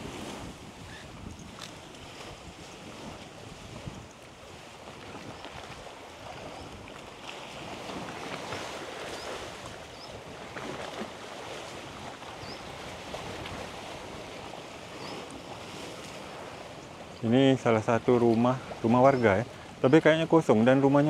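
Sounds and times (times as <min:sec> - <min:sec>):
sea waves splashing: 0:00.0 - 0:21.0.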